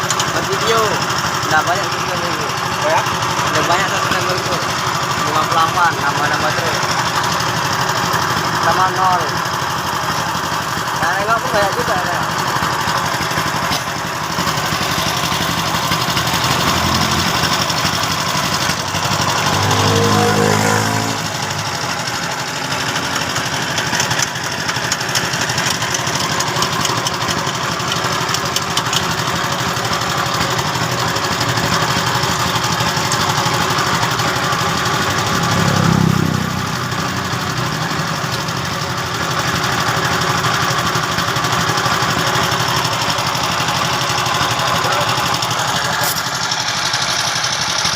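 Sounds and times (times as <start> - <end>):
machinery running: 0.0 - 47.9.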